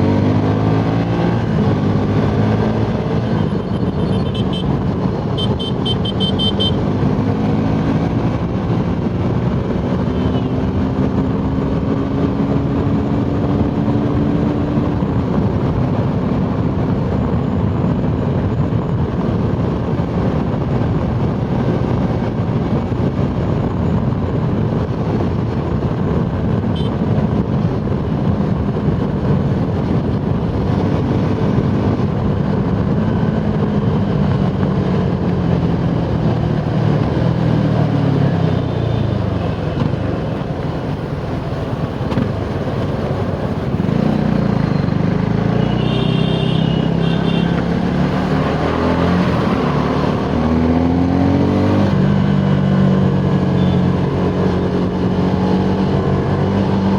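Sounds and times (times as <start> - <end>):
motorcycle engine running hard: 0.0 - 56.9
wind rush: 0.0 - 56.9.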